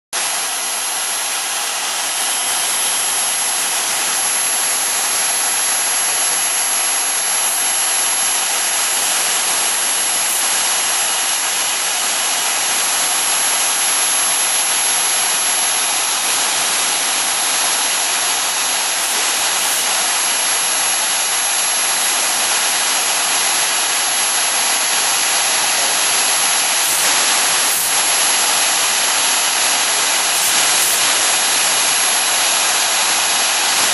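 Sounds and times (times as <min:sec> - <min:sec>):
router spindle cutting foam: 0:00.2 - 0:33.9.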